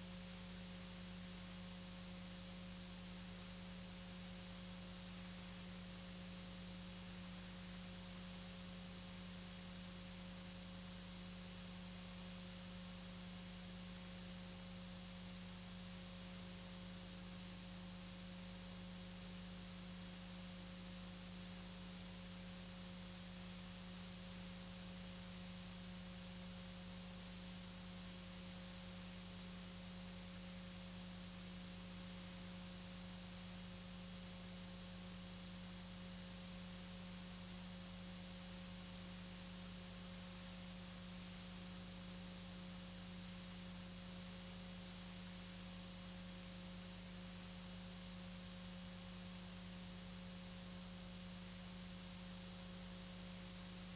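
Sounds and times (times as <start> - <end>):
constant hiss: 0.0 - 53.9
faint electrical hum: 0.0 - 53.9.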